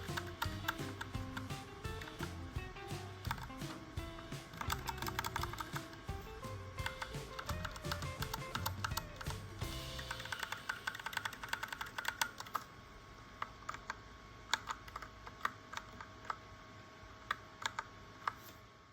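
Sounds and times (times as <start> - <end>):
mechanical keyboard typing: 0.0 - 2.3, 3.2 - 12.7, 13.4 - 16.4, 17.3 - 18.6.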